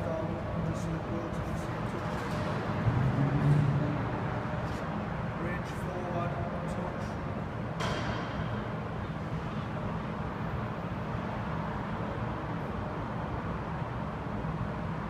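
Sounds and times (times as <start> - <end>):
low machine drone: 0.0 - 15.0.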